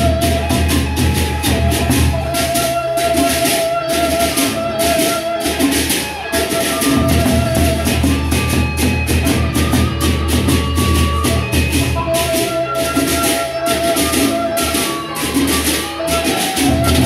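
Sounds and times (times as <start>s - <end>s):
large barrel drums beating: 0.0s - 17.0s.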